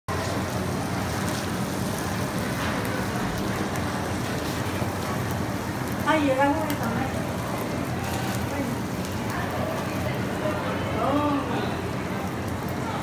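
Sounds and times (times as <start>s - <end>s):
food sizzling on a griddle: 0.1s - 13.0s.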